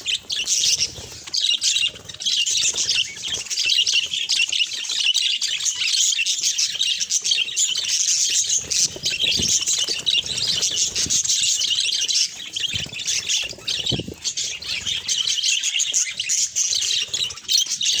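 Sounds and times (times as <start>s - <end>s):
budgerigars chattering and chirping: 0.0s - 18.0s.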